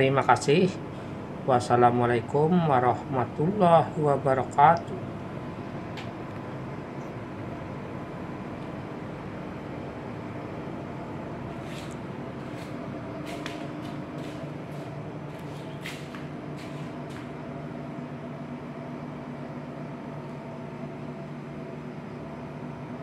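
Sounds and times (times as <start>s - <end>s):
electric water pump humming: 0.0s - 23.0s.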